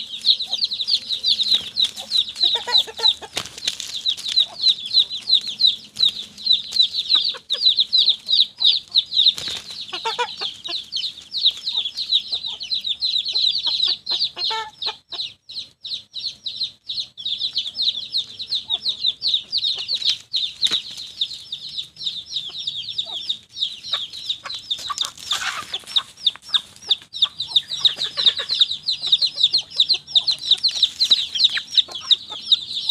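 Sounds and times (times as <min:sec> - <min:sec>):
chicks peeping: 0:00.0 - 0:32.9
hens clucking: 0:00.0 - 0:32.9.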